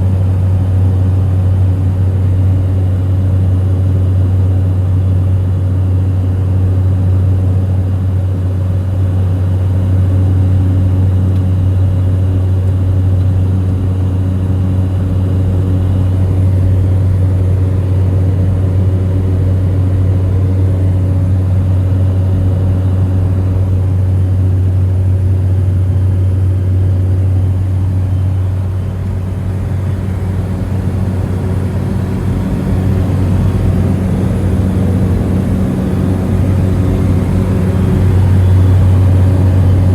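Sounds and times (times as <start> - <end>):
turboprop engine droning: 0.0 - 39.9.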